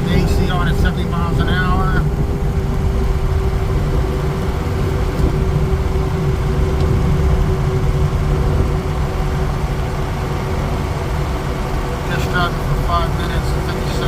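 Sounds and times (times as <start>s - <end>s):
constant hum: 0.0s - 14.0s
van engine and road rumble: 0.0s - 14.0s.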